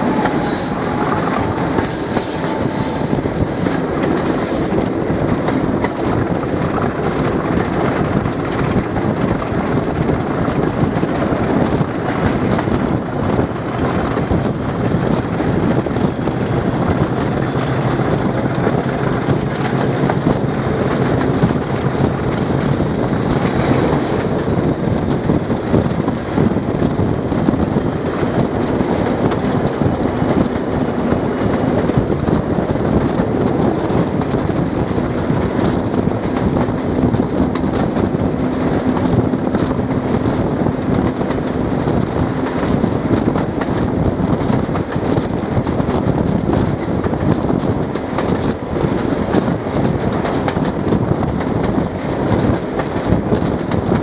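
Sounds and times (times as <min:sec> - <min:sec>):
diesel train engine: 0:00.0 - 0:54.0
wheels on rails: 0:00.0 - 0:54.0.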